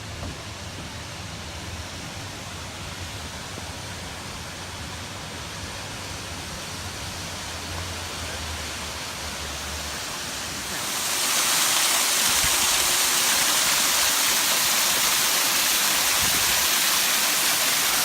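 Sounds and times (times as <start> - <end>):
waterfall rushing water: 0.0 - 18.0.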